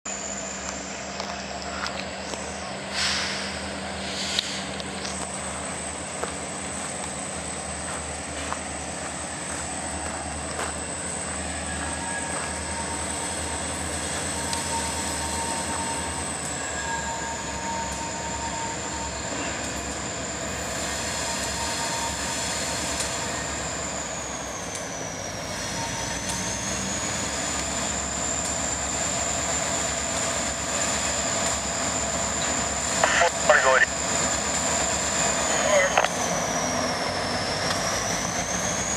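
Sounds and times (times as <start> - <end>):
diesel locomotives rumbling: 0.1 - 38.9.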